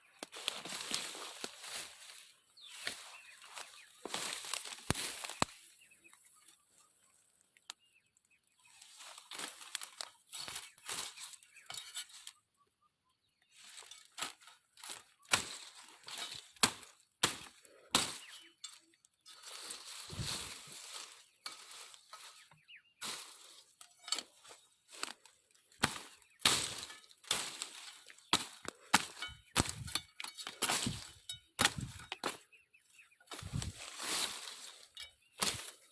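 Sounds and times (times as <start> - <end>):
leaves and branches rustling: 0.0 - 7.8, 8.5 - 12.4, 13.6 - 35.9
branches snapping: 0.2 - 5.7, 8.8 - 12.4, 13.6 - 32.4, 33.3 - 35.9.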